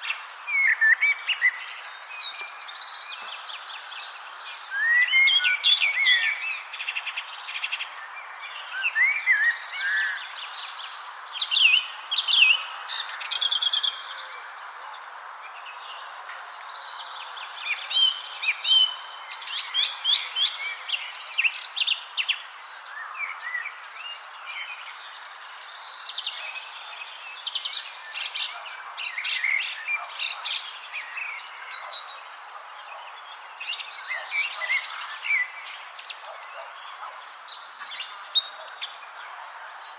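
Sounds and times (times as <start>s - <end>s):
birds chirping and singing: 0.0s - 39.9s
soft outdoor hiss: 0.0s - 39.9s.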